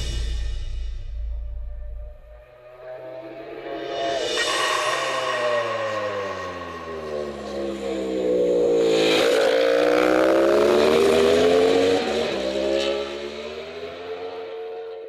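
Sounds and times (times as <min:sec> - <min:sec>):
motorcycle engine revving: 0:02.0 - 0:15.0.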